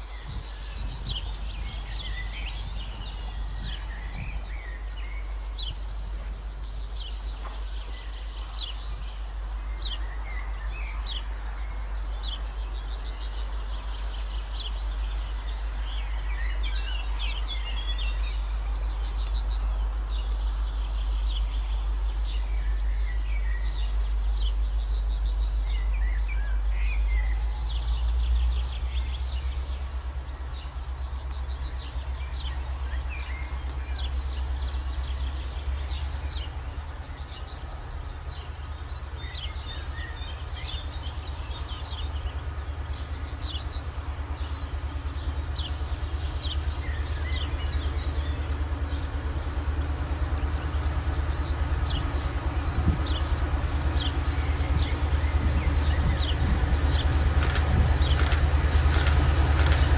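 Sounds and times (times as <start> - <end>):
songbirds trilling and chirping: 0.0 - 59.9
steady low rumble: 0.0 - 59.9.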